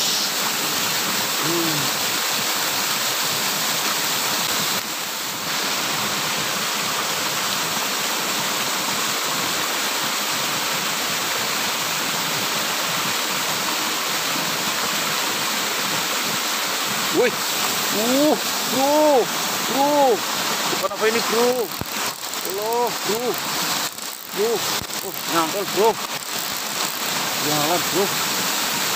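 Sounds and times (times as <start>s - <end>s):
water rushing down cascade: 0.0s - 28.9s.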